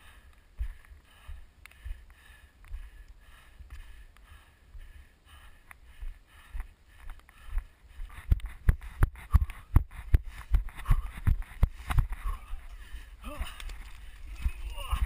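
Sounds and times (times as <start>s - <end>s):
running footsteps on grass and dirt: 0.0s - 15.0s.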